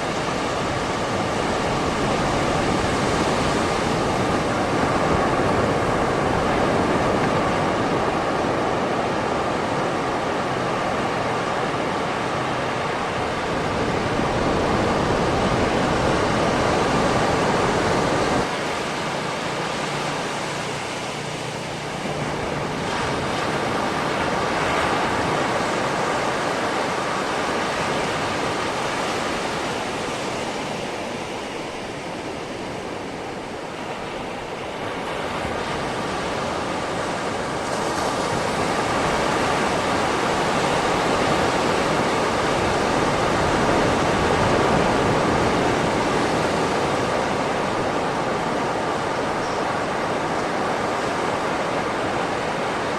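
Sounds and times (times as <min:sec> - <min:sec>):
sea waves washing onto beach: 0:00.0 - 0:52.9.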